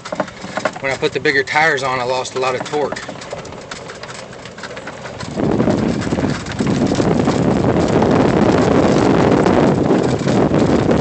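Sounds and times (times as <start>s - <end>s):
electric golf cart running: 0.0s - 11.0s
wind on microphone: 0.0s - 11.0s.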